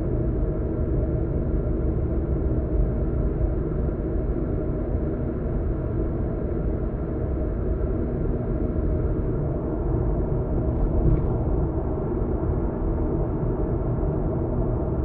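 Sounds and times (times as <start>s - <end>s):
road and engine rumble in car: 0.1s - 15.0s.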